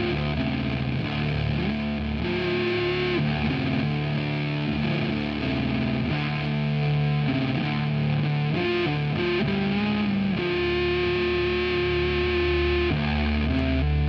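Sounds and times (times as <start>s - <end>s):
rock music distorted guitar: 0.0s - 14.0s.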